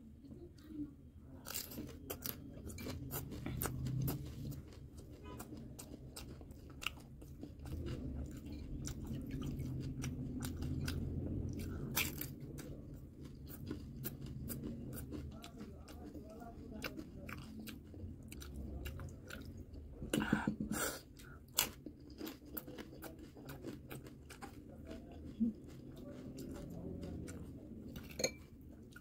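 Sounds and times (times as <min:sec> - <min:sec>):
person chewing and crunching: 0:01.4 - 0:20.0, 0:21.0 - 0:29.0.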